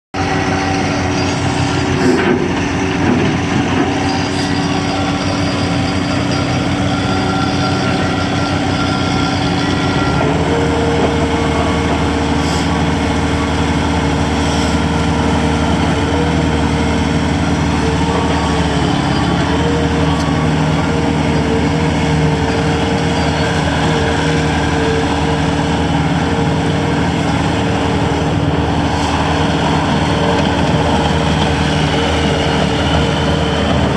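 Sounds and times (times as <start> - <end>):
loader diesel engine running: 0.1 - 33.9.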